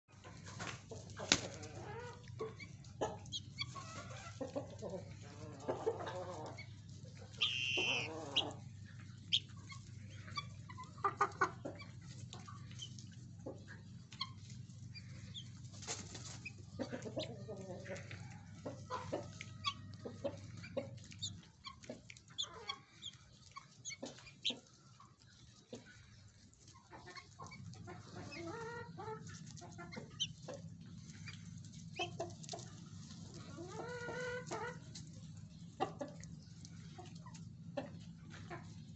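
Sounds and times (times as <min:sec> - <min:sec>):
guinea fowl clucking and calling: 0:00.1 - 0:38.9
steady low hum: 0:00.8 - 0:38.9.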